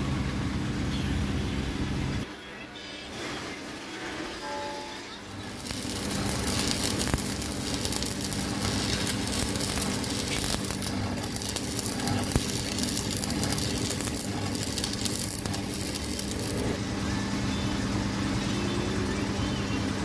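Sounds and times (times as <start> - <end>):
steady low hum: 0.0 - 2.3, 5.0 - 20.0
arc welding crackling sizzle: 3.2 - 20.0.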